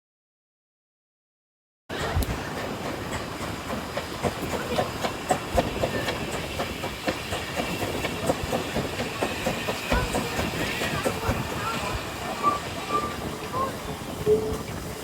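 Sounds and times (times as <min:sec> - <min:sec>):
train rumbling along track: 0:01.9 - 0:15.0.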